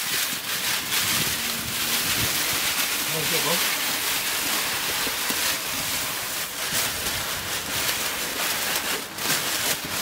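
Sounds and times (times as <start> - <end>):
foil insulation crinkling: 0.0 - 10.0.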